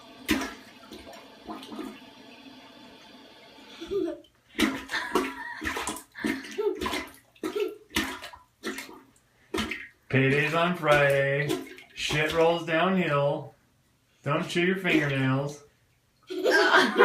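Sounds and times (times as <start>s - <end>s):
water running into bathtub: 0.0s - 13.6s, 14.3s - 15.7s.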